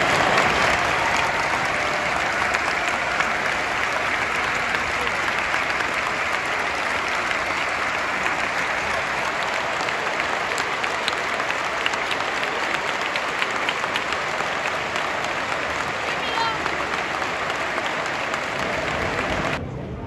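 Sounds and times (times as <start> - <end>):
stadium crowd applauding: 0.0 - 19.6.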